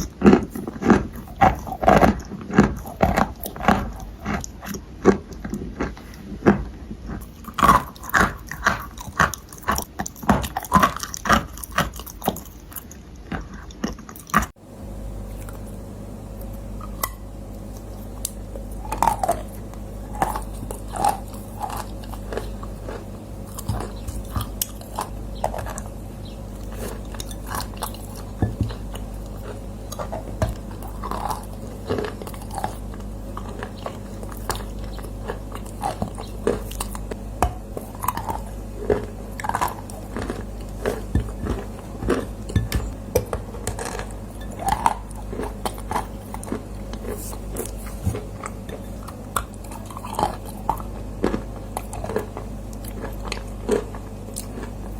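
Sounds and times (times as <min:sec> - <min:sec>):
crunchy chewing: 0:00.0 - 0:54.9
steady low hum: 0:00.0 - 0:54.9.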